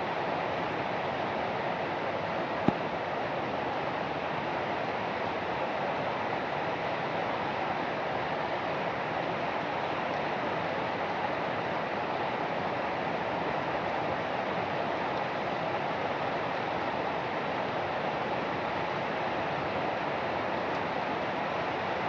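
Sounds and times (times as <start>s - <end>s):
rain falling steadily: 0.0s - 22.0s.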